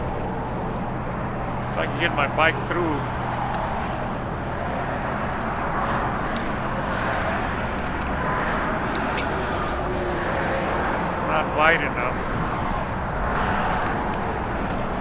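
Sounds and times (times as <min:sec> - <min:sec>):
freeway traffic roar: 0:00.0 - 0:15.0.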